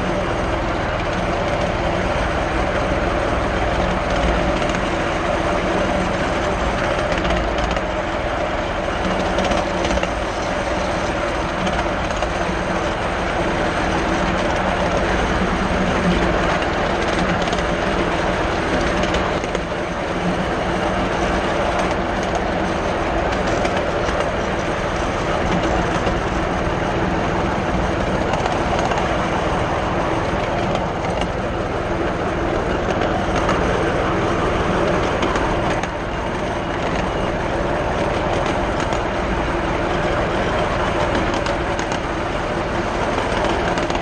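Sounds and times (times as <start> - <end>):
steel wheels rumbling on rails: 0.0 - 44.0.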